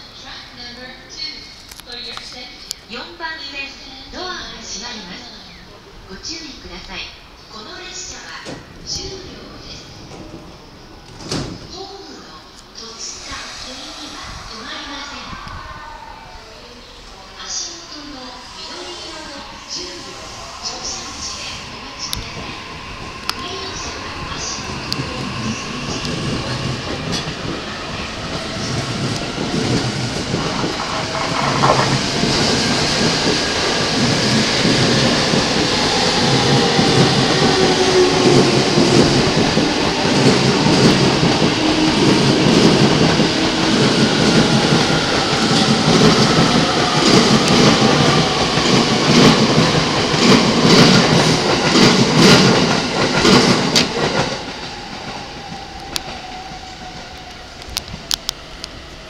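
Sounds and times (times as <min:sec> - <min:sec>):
electric train passing: 0:02.8 - 0:59.0.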